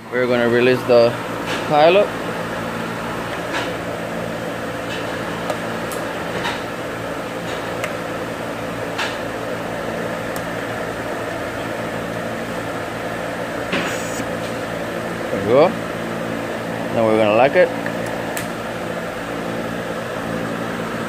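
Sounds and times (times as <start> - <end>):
workshop machinery humming: 0.0 - 21.0.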